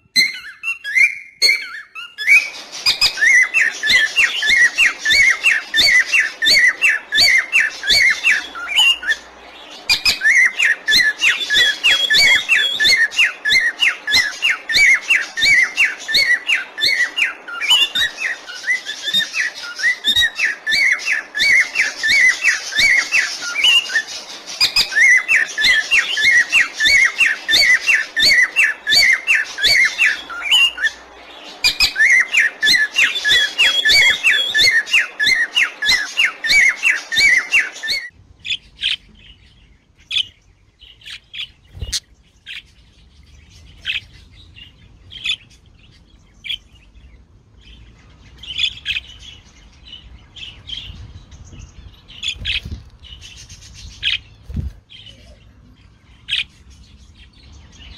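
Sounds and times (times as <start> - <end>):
parrots chirping: 0.0 - 57.9.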